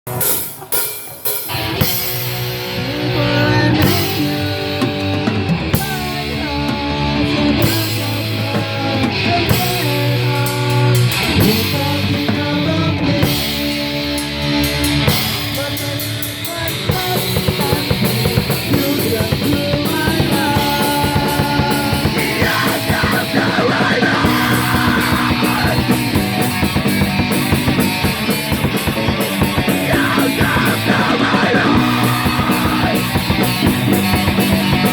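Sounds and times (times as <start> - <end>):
rock song with electric guitars: 0.1 - 34.9.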